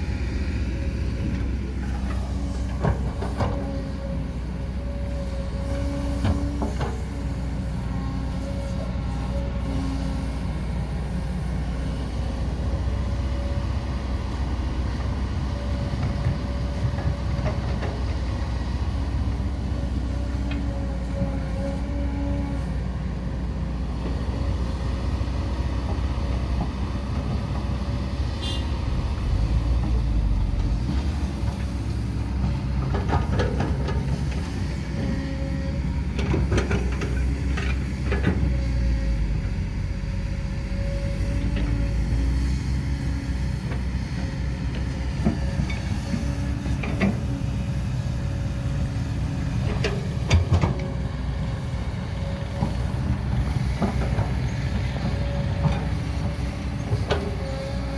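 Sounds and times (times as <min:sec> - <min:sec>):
excavator engine rumble: 0:00.0 - 0:57.9.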